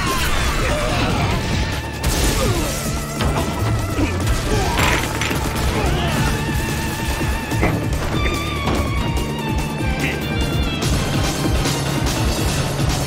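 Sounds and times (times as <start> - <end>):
dramatic music: 0.0 - 13.0.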